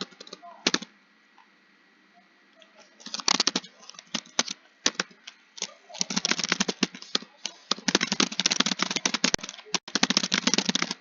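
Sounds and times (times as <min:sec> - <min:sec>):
computer keyboard typing: 0:00.0 - 0:00.9, 0:03.0 - 0:11.0.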